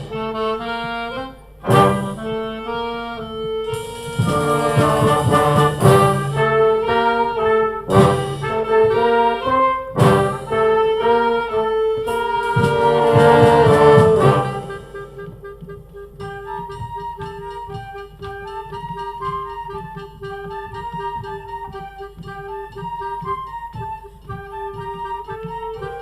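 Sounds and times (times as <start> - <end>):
brass band playing: 0.0 - 23.5.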